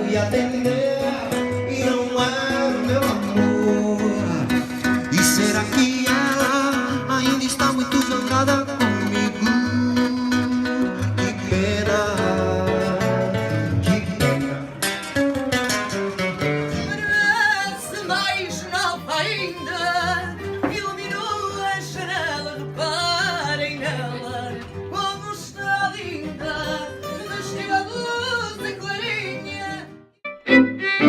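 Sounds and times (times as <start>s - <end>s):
plucked guitar: 0.0s - 31.0s.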